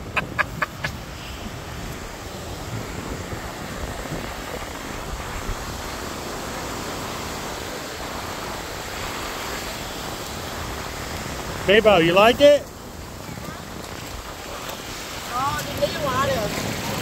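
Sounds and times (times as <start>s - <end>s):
surf waves breaking on sand: 0.0s - 17.0s
wind buffeting microphone: 0.0s - 17.0s.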